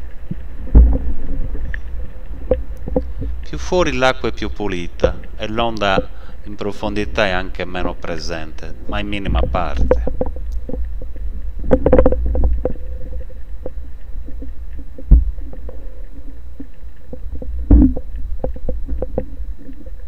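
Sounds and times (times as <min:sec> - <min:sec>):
sharp underwater clicks: 0:00.0 - 0:20.0.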